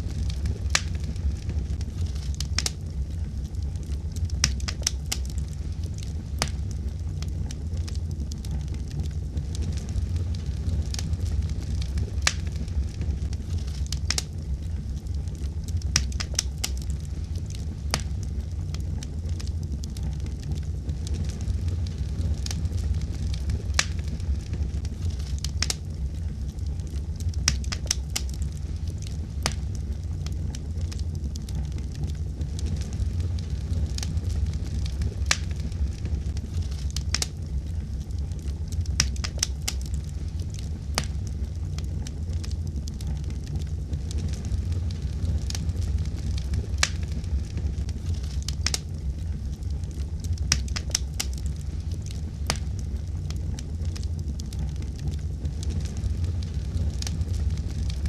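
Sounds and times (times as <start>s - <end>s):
fire crackling in a fireplace: 0.0s - 58.0s.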